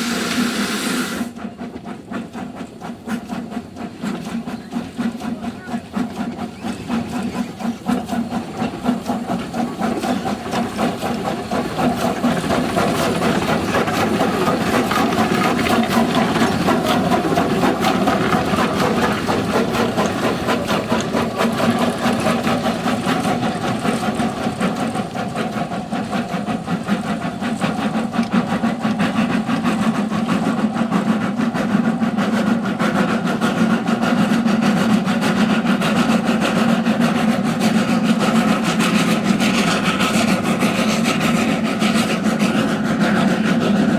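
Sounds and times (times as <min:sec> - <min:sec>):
locomotive mechanical clatter: 0:00.0 - 0:43.9.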